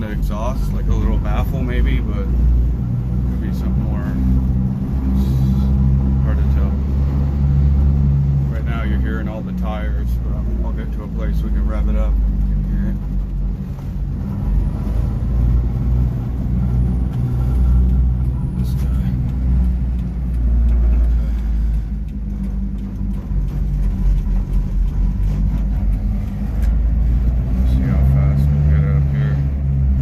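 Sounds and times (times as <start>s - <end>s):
small truck engine running: 0.0s - 30.0s
tires droning on road: 0.0s - 30.0s.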